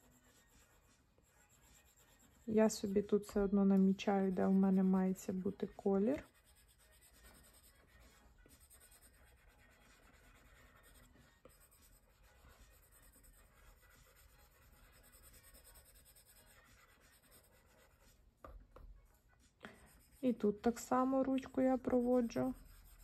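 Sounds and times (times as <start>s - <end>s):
stylus scratching on glass screen: 0.0s - 23.0s.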